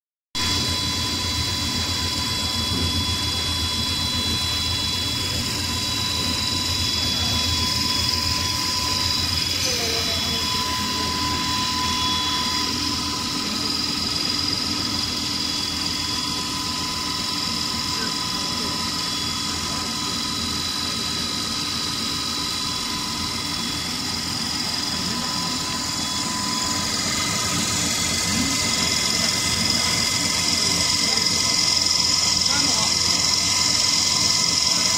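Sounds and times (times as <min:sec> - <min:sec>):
high-pitched whining tones: 0:00.4 - 0:34.9
machine drone with low hum: 0:00.4 - 0:34.9.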